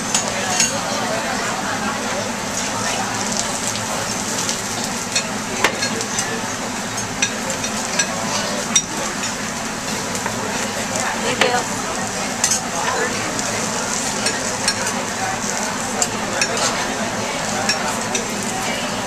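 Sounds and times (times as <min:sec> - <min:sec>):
onions sizzling on griddle: 0:00.1 - 0:19.0.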